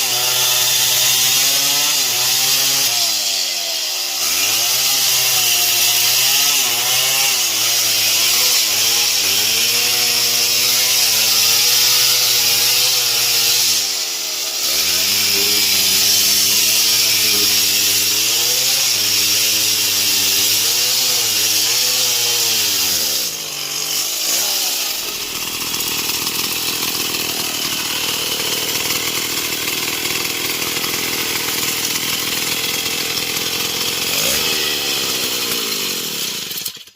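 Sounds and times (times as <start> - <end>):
chainsaw sawing through wood: 0.0 - 36.9
noisy sawing sound: 0.0 - 36.9.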